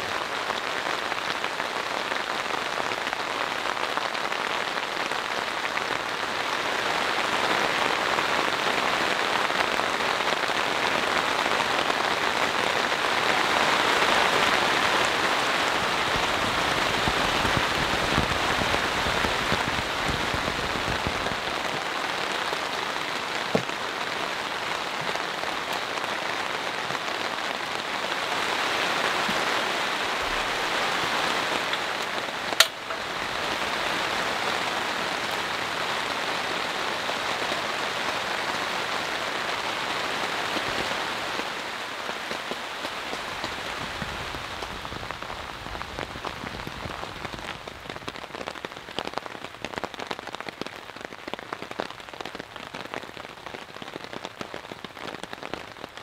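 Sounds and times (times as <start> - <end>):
rain on tent fabric: 0.0 - 56.0.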